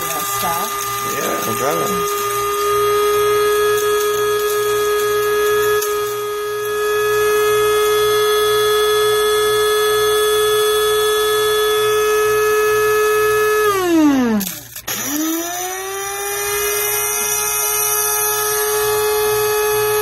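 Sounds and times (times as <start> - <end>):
coffee maker motor whining: 0.0 - 20.0.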